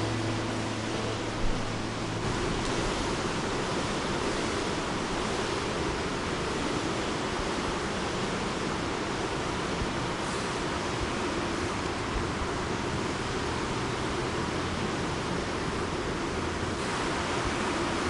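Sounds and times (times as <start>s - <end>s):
indoor swimming pool ambience: 0.0s - 18.0s.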